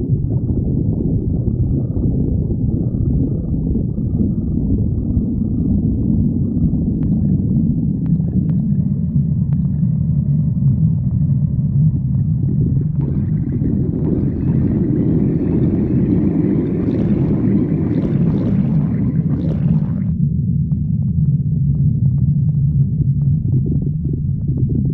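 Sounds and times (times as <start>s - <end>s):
stomach growling: 0.0s - 20.2s, 21.1s - 24.9s
stomach gurgling: 0.0s - 20.2s, 21.1s - 24.9s.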